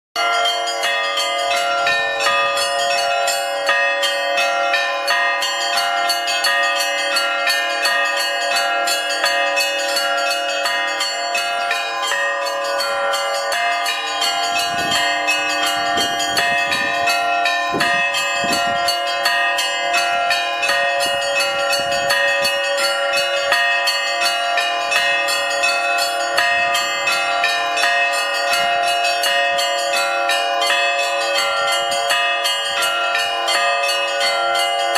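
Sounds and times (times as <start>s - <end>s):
church bells ringing: 0.2s - 34.9s.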